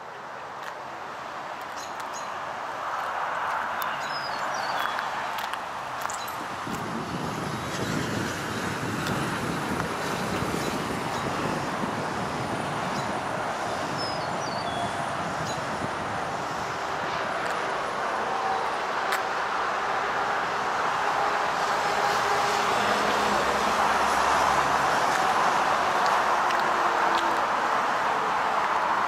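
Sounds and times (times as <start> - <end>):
highway traffic: 0.0 - 29.0.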